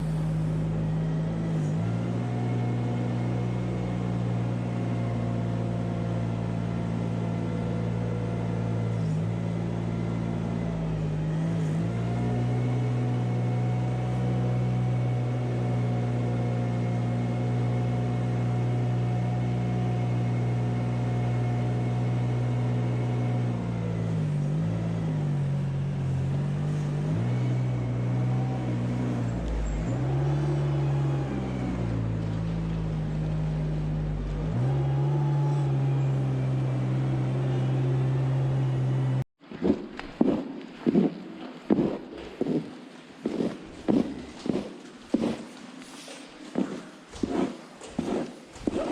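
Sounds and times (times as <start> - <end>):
farm machine engine running: 0.0 - 48.9.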